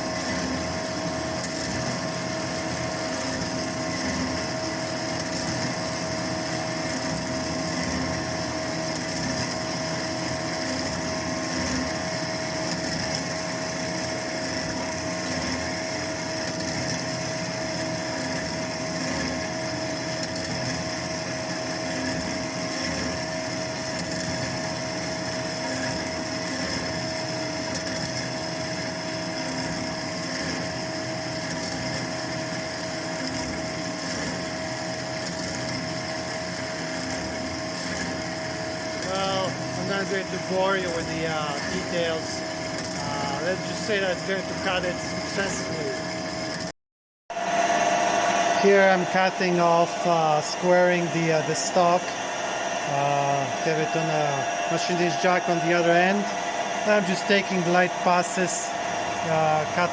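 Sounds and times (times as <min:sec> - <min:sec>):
bandsaw cutting metal: 0:00.0 - 0:46.7, 0:47.8 - 0:59.9.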